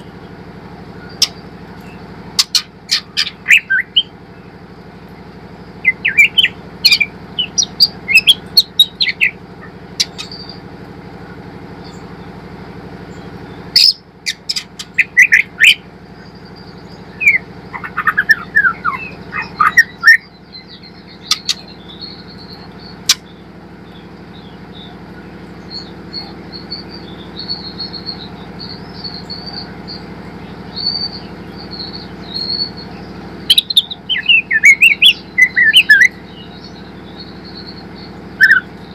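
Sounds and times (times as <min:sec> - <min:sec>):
high twittering warble: 0:00.0 - 0:38.9
steady low hum: 0:00.0 - 0:38.9
bird chirps and whistles: 0:01.0 - 0:04.1, 0:05.8 - 0:10.6, 0:13.1 - 0:38.9.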